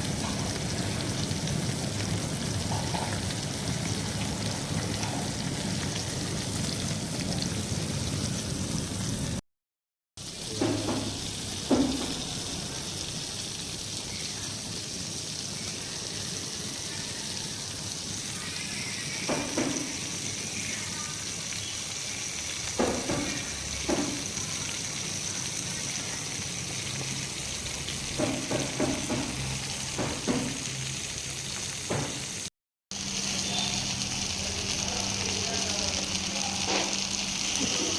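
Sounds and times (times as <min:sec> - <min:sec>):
fish sizzling in oil: 0:00.0 - 0:09.4, 0:10.2 - 0:37.9.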